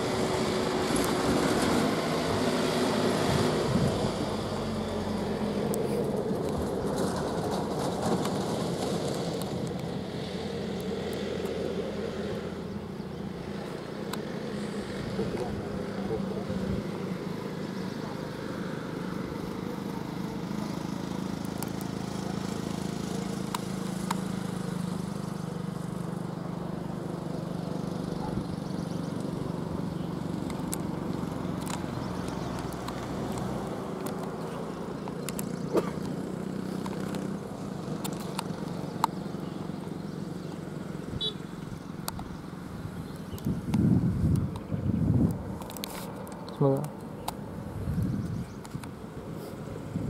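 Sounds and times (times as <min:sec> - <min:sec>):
truck engine droning: 0:00.0 - 0:44.6.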